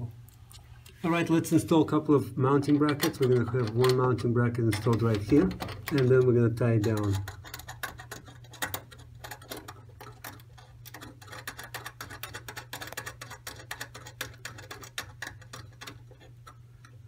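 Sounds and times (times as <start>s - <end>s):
small metal clicks: 2.6s - 17.0s.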